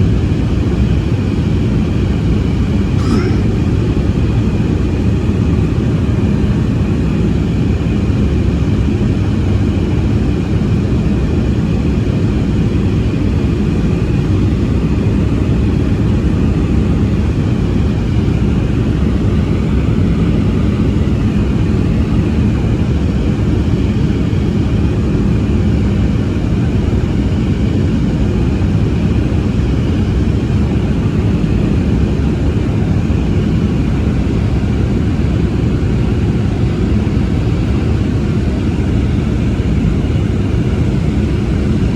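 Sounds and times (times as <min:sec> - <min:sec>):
faint high engine whine: 0:00.0 - 0:41.9
jet engines deep rumble: 0:00.0 - 0:41.9.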